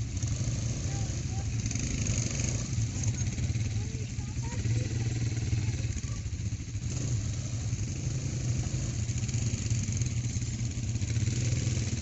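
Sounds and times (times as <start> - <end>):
quad bike engine idling: 0.0 - 12.0.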